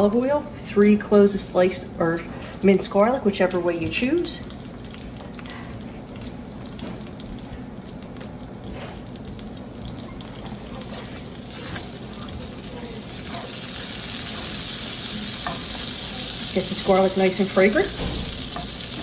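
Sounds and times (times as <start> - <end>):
garlic sizzling in frying pan: 2.6 - 19.0.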